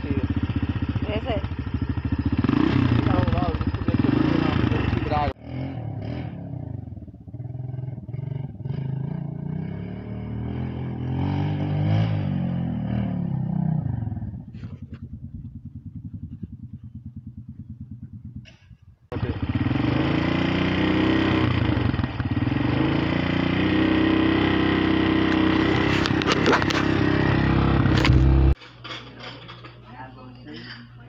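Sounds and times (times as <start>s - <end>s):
atv engine running loud: 0.0s - 28.6s
quad engine chugging at low revs: 0.0s - 28.6s.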